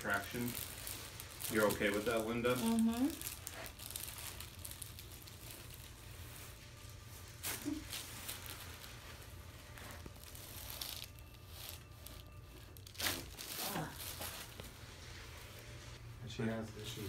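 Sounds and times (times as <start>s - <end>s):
rustling: 0.0s - 16.0s
steady low hum: 0.0s - 17.0s.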